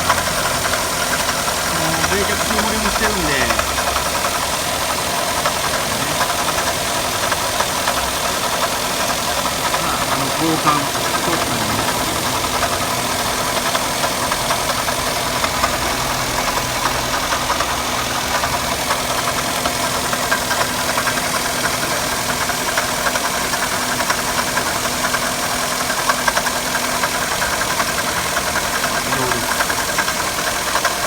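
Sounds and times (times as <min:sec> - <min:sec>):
car engine idling: 0:00.0 - 0:31.0
water pump rattling: 0:00.0 - 0:31.0.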